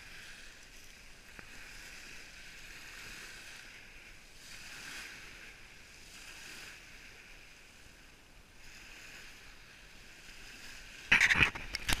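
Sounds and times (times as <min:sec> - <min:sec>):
small waves washing on pebbles: 0:00.0 - 0:12.0.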